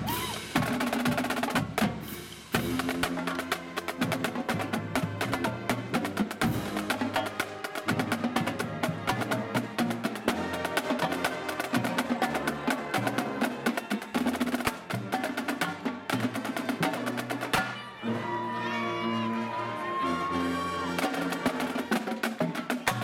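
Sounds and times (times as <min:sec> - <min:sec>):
rapid snare drum strokes: 0:00.0 - 0:17.8, 0:21.0 - 0:23.0
marching band playing: 0:00.0 - 0:23.0.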